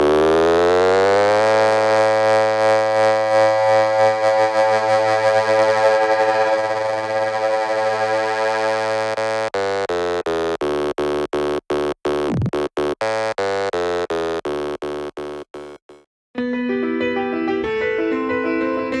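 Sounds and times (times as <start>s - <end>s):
electronic chord stuttering: 0.0s - 16.0s.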